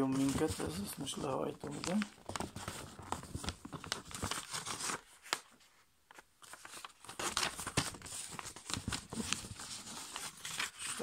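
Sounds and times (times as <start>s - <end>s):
paper rustling and crackling: 0.0s - 11.0s.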